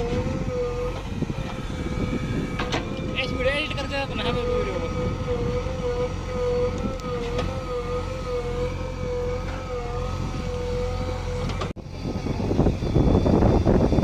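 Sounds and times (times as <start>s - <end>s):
diesel engine running: 0.0s - 14.0s
high steady whine: 0.0s - 14.0s.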